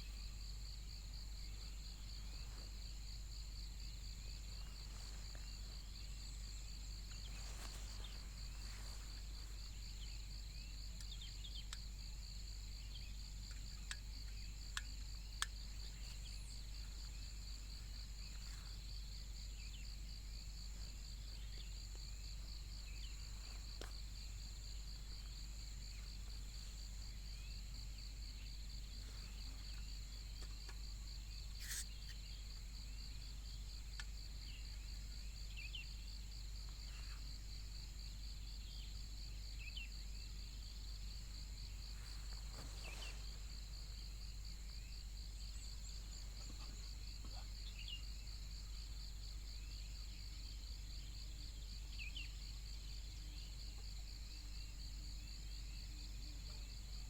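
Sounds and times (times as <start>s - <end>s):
steady low hum: 0.0s - 53.4s
insects trilling: 0.0s - 57.0s.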